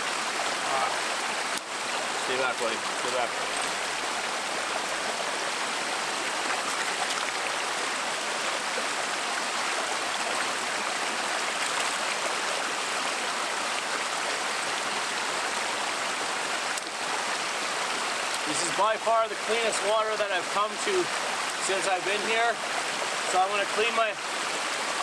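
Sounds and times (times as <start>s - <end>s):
stream flowing over stones: 0.0s - 25.0s.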